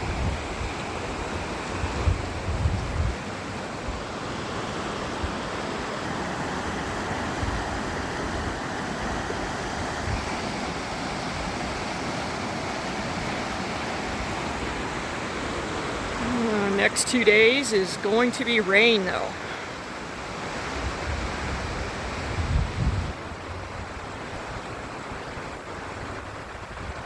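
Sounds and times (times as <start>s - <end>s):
rushing creek water: 0.0s - 27.0s.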